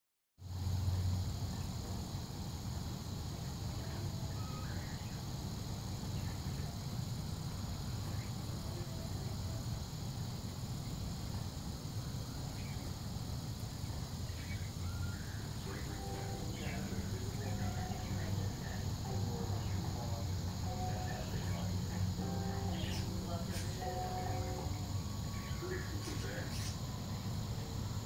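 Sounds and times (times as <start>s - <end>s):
insects buzzing: 0.4s - 28.0s
low steady rumble: 0.5s - 28.0s.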